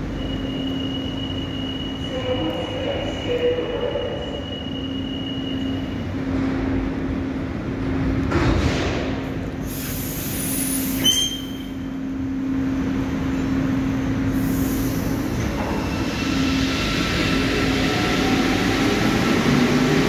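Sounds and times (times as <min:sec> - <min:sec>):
train electric hum: 0:00.0 - 0:20.0.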